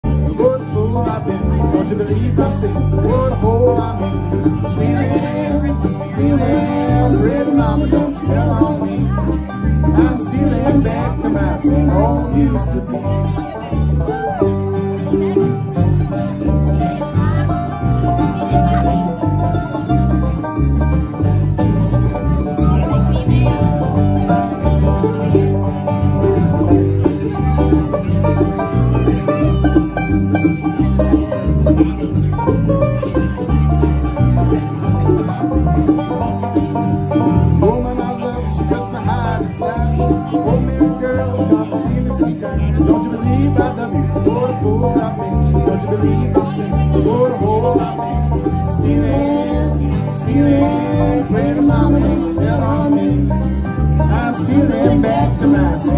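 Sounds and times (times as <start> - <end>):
acoustic guitar: 0.0 - 55.9
banjo: 0.0 - 55.9
electric bass line: 0.0 - 55.9
mandolin: 0.0 - 55.9.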